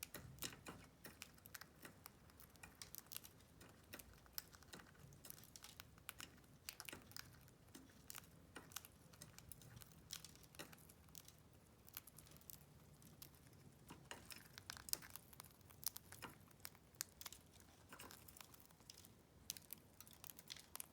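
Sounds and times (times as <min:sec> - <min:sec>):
birds cracking seeds: 0:00.1 - 0:20.9.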